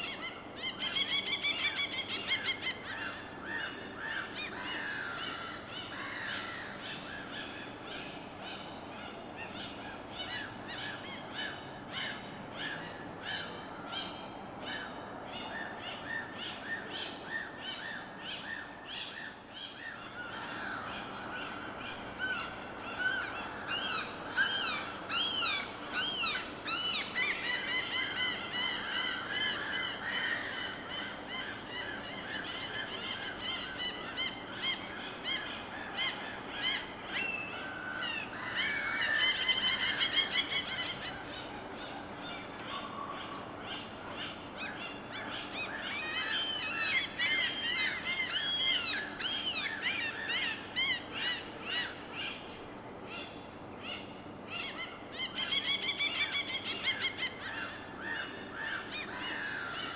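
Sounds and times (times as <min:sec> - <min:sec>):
birds calling and chirping: 0:09.4 - 0:59.9.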